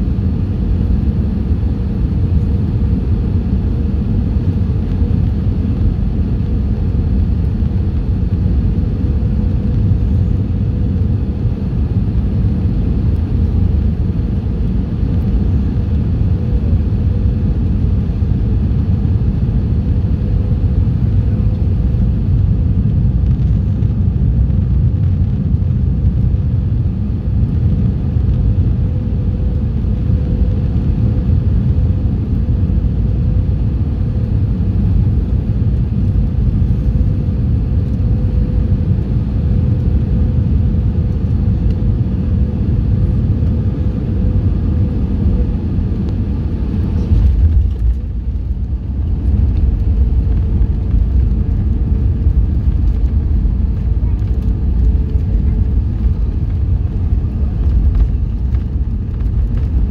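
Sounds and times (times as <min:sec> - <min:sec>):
airplane cabin engine rumble: 0:00.0 - 0:59.9
constant hum: 0:00.0 - 0:59.9.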